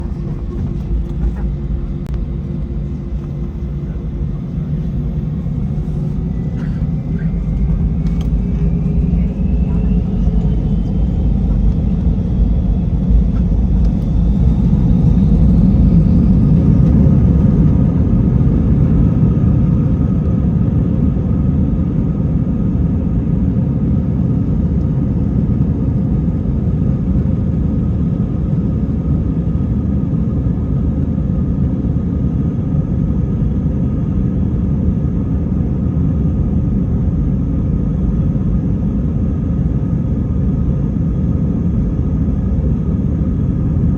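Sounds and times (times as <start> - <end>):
jet engines whining and rumbling: 0.0 - 43.9.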